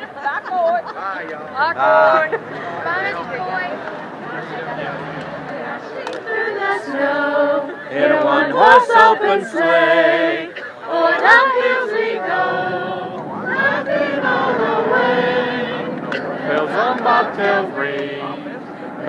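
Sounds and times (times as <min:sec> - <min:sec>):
crowd: 0:00.0 - 0:19.0
group of voices singing: 0:01.7 - 0:19.0.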